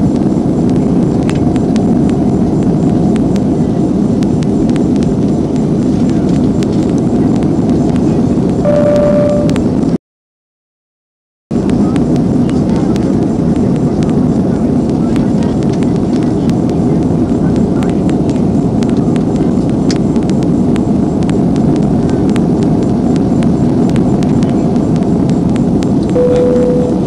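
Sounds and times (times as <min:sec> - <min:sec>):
airliner cabin rushing hum: 0:00.0 - 0:10.0, 0:11.6 - 0:27.0.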